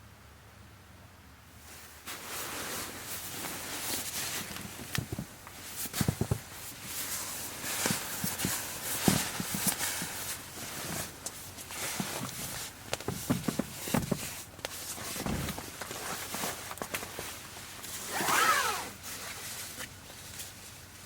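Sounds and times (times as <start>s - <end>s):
rustling: 1.6s - 21.0s.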